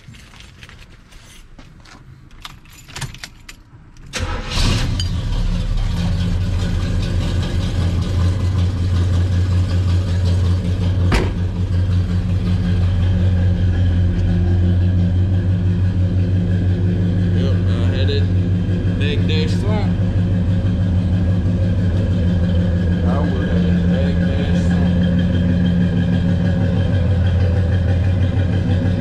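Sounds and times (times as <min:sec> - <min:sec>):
car engine cranking and idling: 0:02.2 - 0:29.0.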